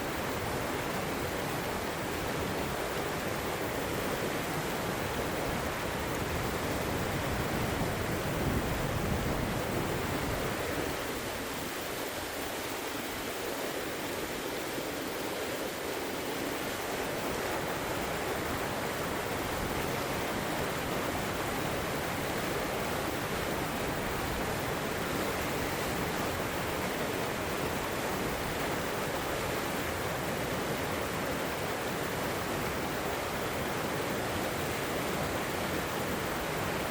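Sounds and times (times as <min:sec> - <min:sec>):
river water rushing over rocks: 0:00.0 - 0:36.9.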